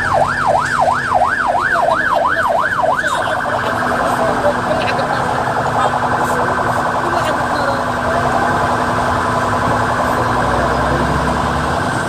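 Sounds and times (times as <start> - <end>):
din of vehicles: 0.0 - 12.0
emergency vehicle siren wailing: 0.0 - 12.0.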